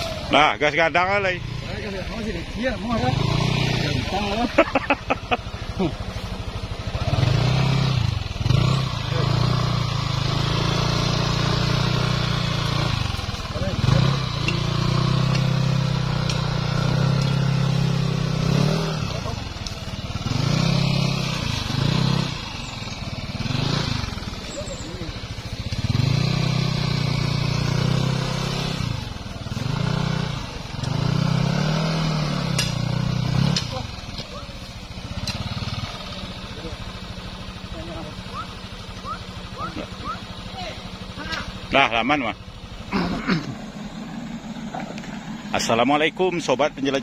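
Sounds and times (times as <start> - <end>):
scooter engine revving: 0.0 - 47.0.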